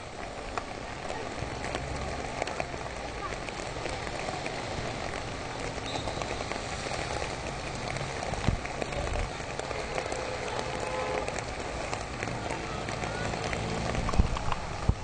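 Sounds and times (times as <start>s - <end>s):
outdoor field noise: 0.0s - 15.0s
faint ticks: 0.5s - 15.0s.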